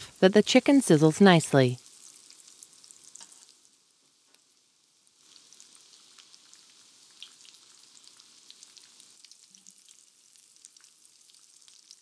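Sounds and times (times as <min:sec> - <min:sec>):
chicken frying in hot oil: 0:00.0 - 0:12.0
oil crackling and popping: 0:01.8 - 0:12.0.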